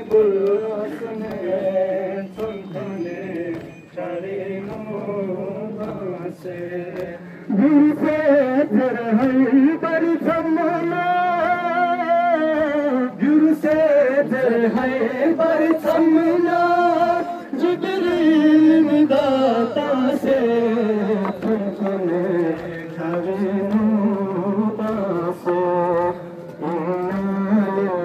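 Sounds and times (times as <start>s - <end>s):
man chanting a lament: 0.0s - 28.0s.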